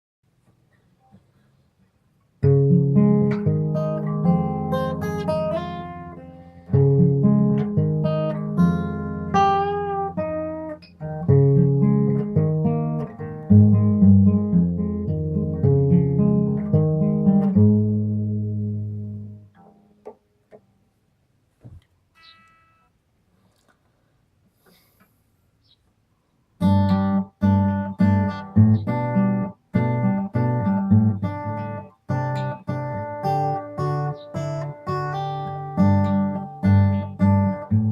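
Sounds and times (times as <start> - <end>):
acoustic guitar playing: 2.4 - 20.9, 22.1 - 23.0, 26.6 - 37.9.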